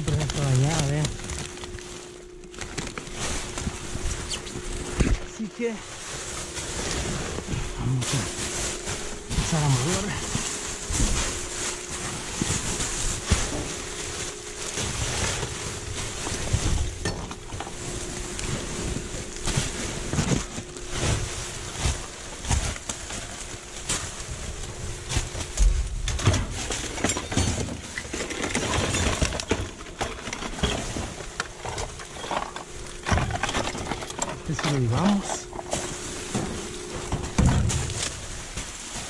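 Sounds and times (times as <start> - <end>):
faint steady hum: 0.0 - 39.0
plastic bags rustling: 0.0 - 39.0.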